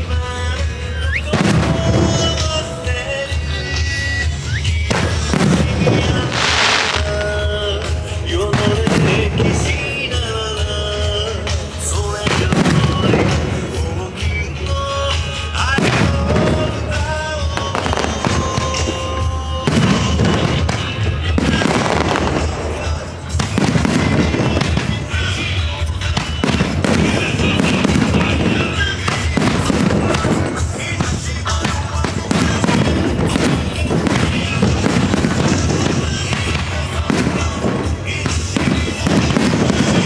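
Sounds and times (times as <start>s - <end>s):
fireworks bangs and crackles: 0.0s - 40.0s
music: 0.0s - 40.0s.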